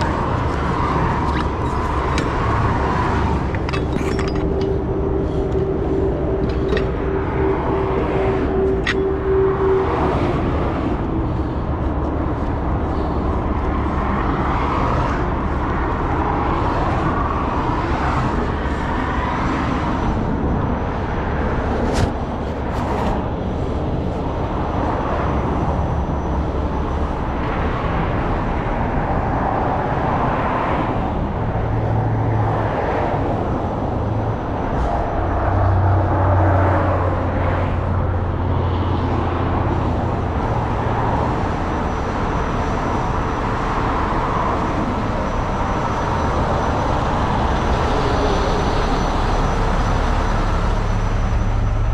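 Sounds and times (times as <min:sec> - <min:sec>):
heavy truck engine running: 0:00.0 - 0:30.2, 0:33.2 - 0:51.9.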